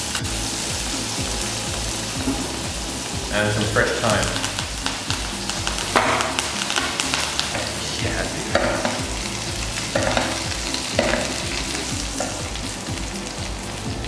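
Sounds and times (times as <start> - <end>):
food frying in butter: 0.0 - 14.0.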